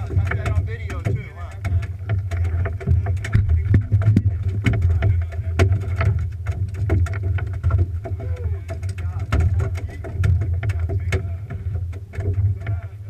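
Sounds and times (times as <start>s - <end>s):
knocks and slaps: 0.0s - 12.9s
boat engine rumble: 0.0s - 13.0s.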